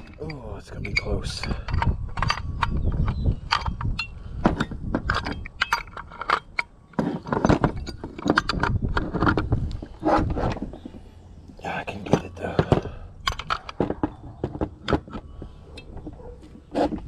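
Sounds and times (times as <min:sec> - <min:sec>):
metallic clinks and clanks: 0:00.0 - 0:11.1, 0:11.9 - 0:17.0.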